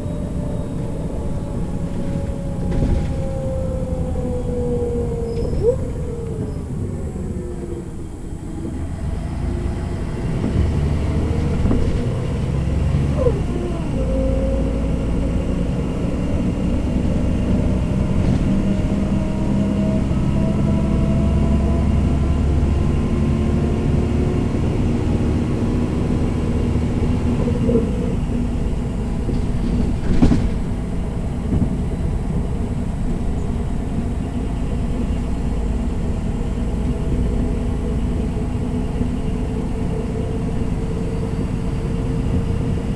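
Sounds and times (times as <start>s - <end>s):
diesel bus engine droning: 0.0s - 42.9s.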